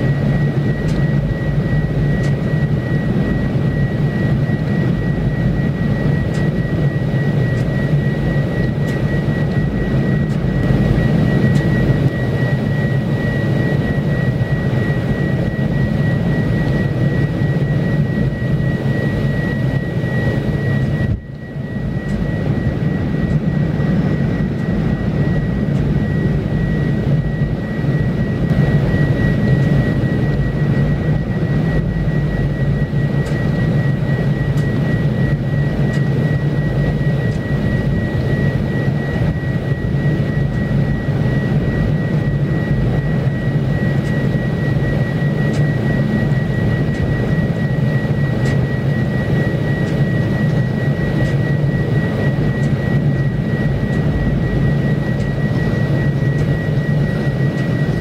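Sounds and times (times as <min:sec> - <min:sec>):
low engine-like drone: 0:00.0 - 0:58.0.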